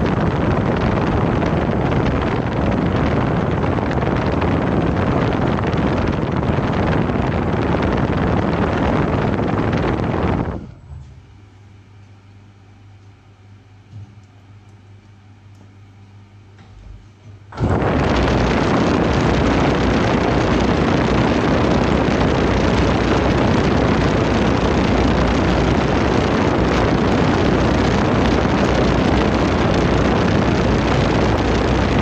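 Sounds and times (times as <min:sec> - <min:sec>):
air buffeting a microphone: 0:00.0 - 0:11.5, 0:16.6 - 0:32.0.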